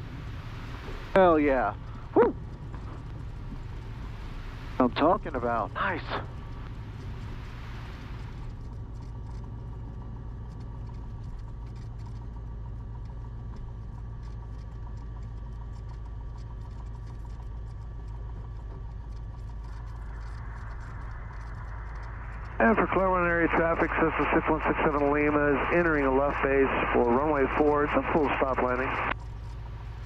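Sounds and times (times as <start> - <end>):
aircraft engine humming: 0.0 - 30.0.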